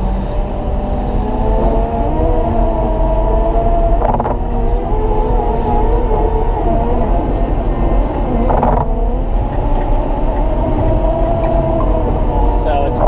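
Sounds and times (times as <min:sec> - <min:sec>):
diesel engine working hard: 0:00.0 - 0:13.0.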